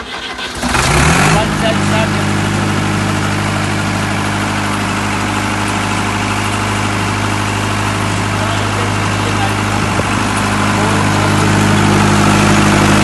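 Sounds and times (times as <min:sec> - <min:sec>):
diesel generator running: 0:00.0 - 0:13.0.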